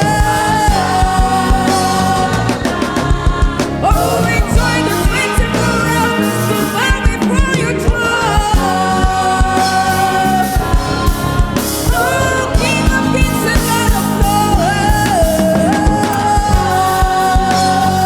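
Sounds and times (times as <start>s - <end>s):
bass notes: 0.0s - 18.0s
choir singing: 0.0s - 18.0s.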